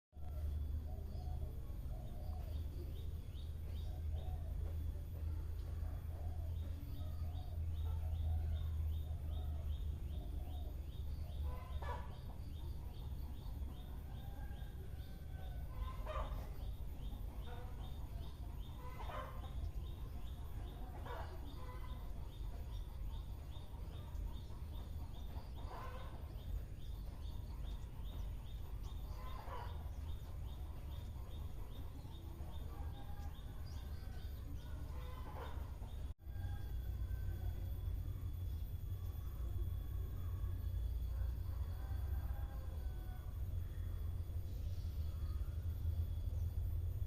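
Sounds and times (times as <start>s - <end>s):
steady low rumble: 0.2s - 47.0s.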